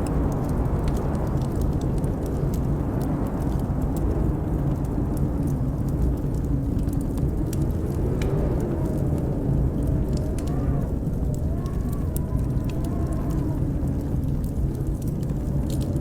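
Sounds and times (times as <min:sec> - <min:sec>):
wind howling: 0:00.0 - 0:16.0
wood fire crackling: 0:00.0 - 0:16.0.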